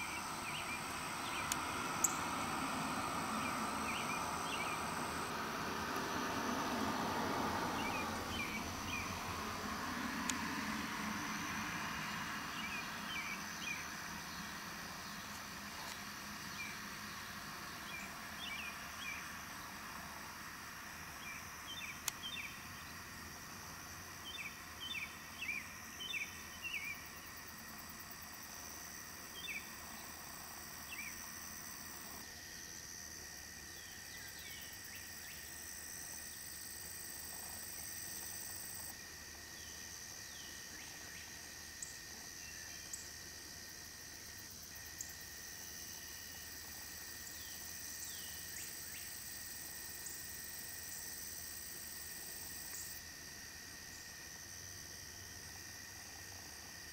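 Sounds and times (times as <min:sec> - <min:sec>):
high insect drone: 0:00.0 - 0:56.9.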